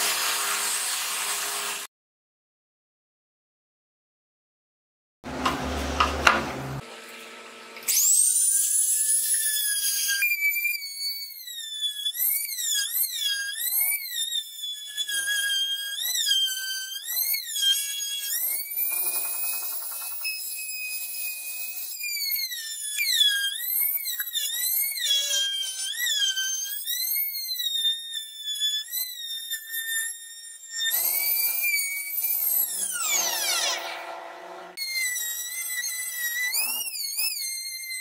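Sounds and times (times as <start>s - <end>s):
router motor whining: 5.3s - 38.0s.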